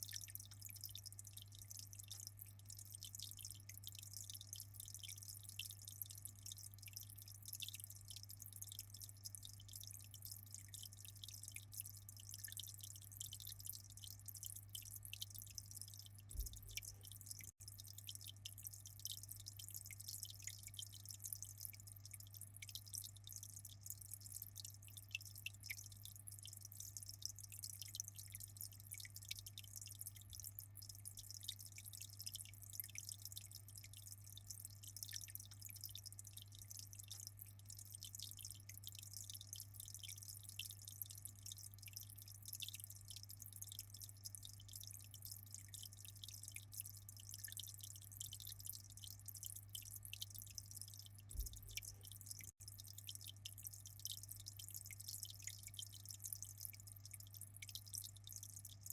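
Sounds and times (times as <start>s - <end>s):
aquarium water dripping and splashing: 0.0s - 58.9s.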